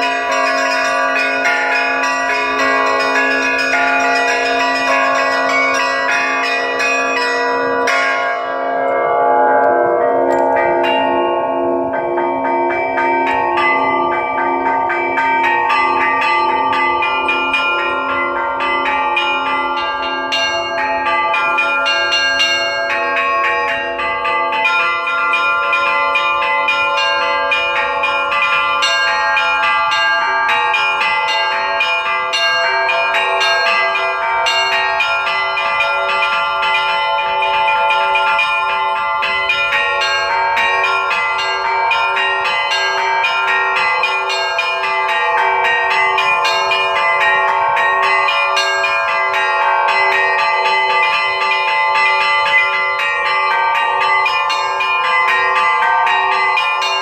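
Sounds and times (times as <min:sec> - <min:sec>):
small bells struck rapidly: 0:00.0 - 0:08.7, 0:09.6 - 0:57.0
hum of large bells: 0:00.0 - 0:57.0
mid-pitched bell steady beat: 0:00.0 - 0:57.0.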